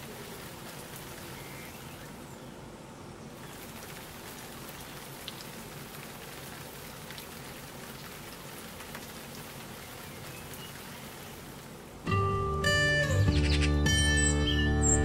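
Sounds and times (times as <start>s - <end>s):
rain falling on plants: 0.0s - 12.1s.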